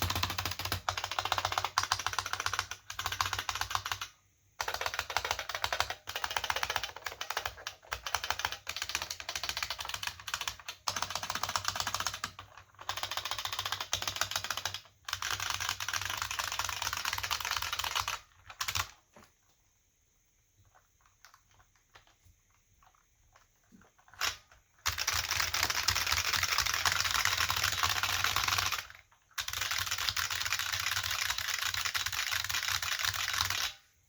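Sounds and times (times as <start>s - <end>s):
fast typing on clicky keyboard: 0.0s - 19.0s, 22.8s - 33.8s.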